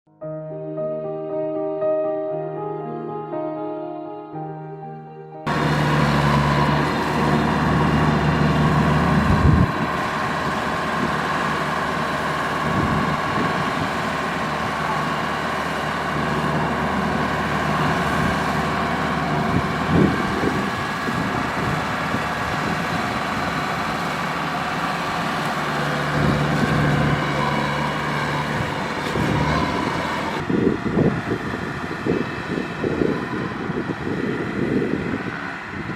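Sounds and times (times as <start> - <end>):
combine harvester drone: 5.5 - 35.9.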